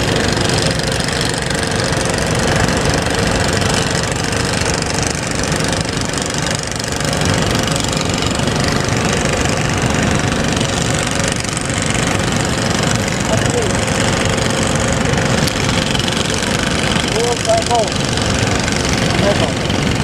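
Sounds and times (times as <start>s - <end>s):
boat engine pulsing: 0.0s - 20.0s.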